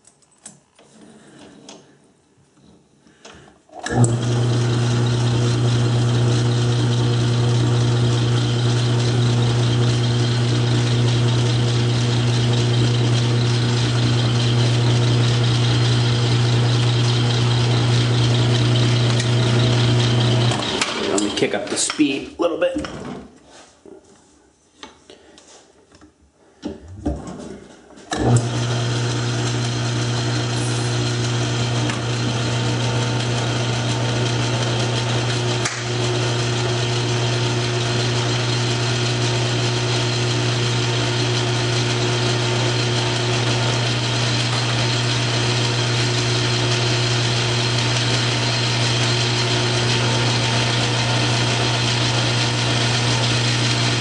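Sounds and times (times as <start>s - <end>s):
metal lathe running: 3.8s - 21.5s, 28.2s - 54.0s.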